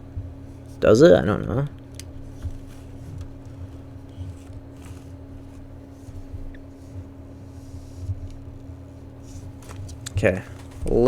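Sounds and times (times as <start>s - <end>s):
low electrical hum: 0.0s - 11.0s
handling rustles and knocks: 1.8s - 11.0s.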